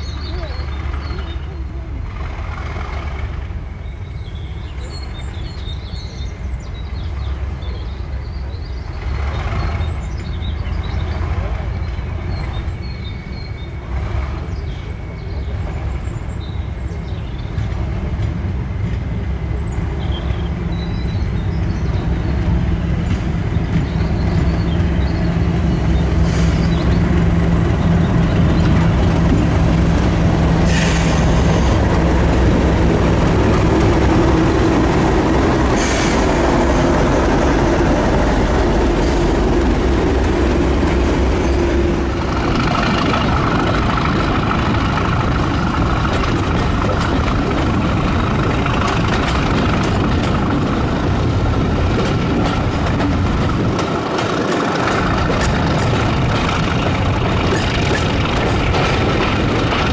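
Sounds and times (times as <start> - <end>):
diesel train engine: 0.0 - 59.9.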